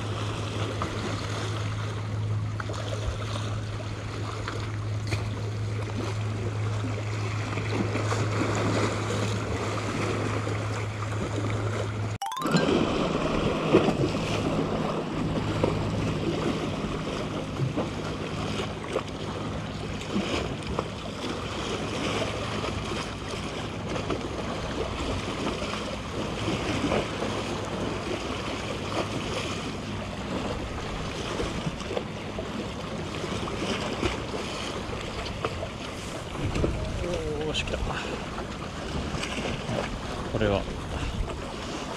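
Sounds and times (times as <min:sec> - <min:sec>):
sea waves against a seawall: 0:00.0 - 0:41.9.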